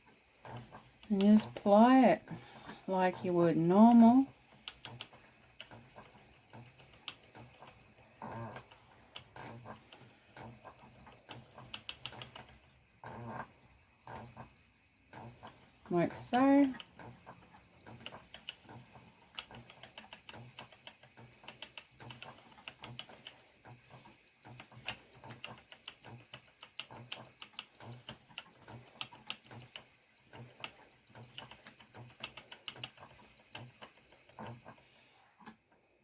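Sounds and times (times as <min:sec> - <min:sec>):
treadle thumps: 0:00.0 - 0:35.5
spinning wheel clicking: 0:00.0 - 0:35.6.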